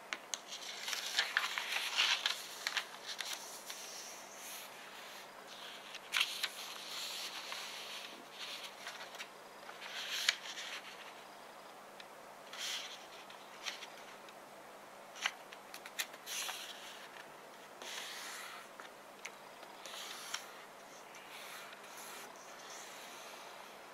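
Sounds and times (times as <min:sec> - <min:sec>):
paper rustling: 0:00.3 - 0:11.2, 0:12.5 - 0:14.2, 0:15.1 - 0:23.7.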